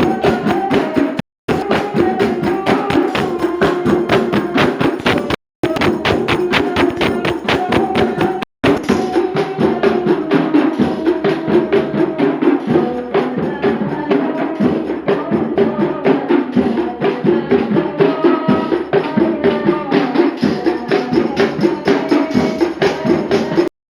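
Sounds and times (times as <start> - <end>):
frame drums and jingles: 0.0 - 23.7.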